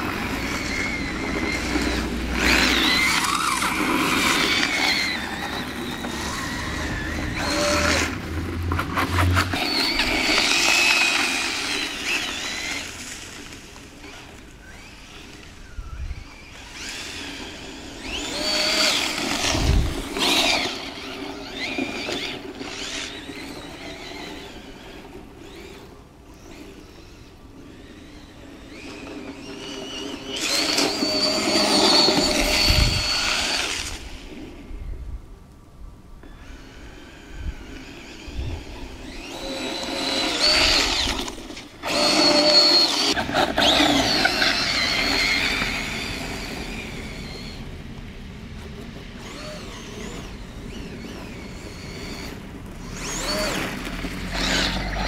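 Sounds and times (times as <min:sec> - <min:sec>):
electric motor and gear drive whining: 0:00.0 - 0:35.1, 0:36.2 - 0:55.0.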